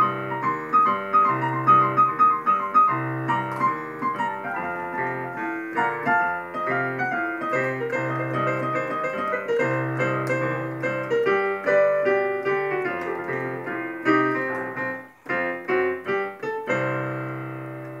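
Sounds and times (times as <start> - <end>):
boogie-woogie piano playing: 0.0 - 18.0.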